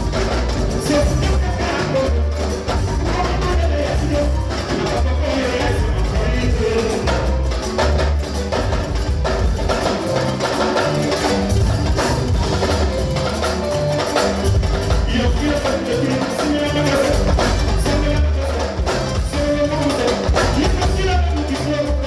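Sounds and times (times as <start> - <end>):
clattering percussion: 0.0 - 22.0
heavy bass line: 0.0 - 22.0
keyboard: 0.0 - 22.0
live band music: 0.0 - 22.0.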